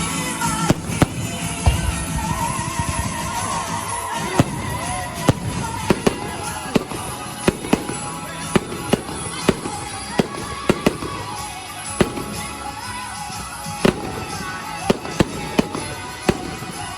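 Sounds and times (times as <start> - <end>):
fireworks bursting: 0.0 - 16.9
music playing: 0.0 - 16.9.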